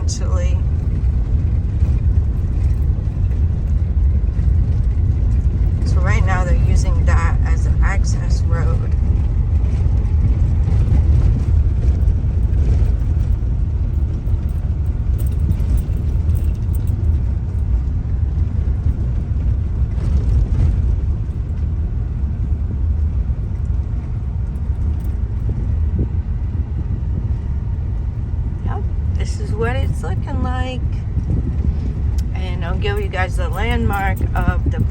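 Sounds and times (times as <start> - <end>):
car driving on road: 0.0 - 34.9.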